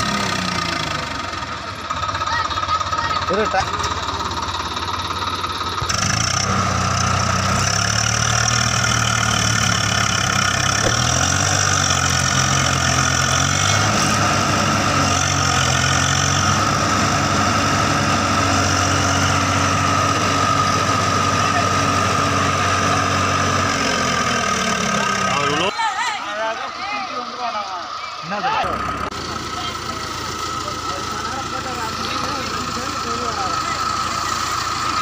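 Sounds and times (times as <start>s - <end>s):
tractor diesel engine straining: 0.0s - 35.0s.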